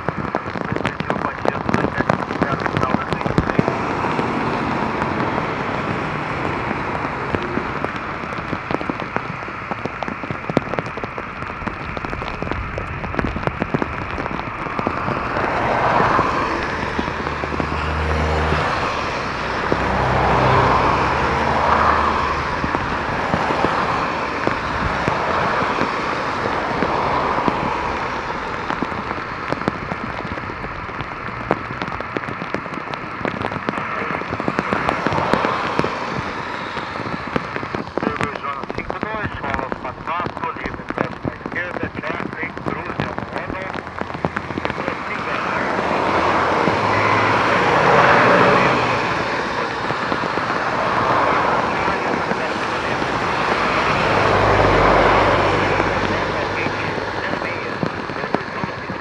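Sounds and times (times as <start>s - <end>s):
deep rumble: 0.0s - 59.0s
torrential rain pouring: 0.0s - 59.0s.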